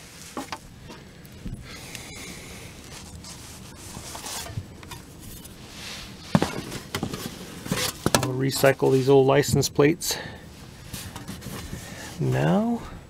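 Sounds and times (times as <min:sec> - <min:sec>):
handling and rubbing noise: 0:00.0 - 0:12.7.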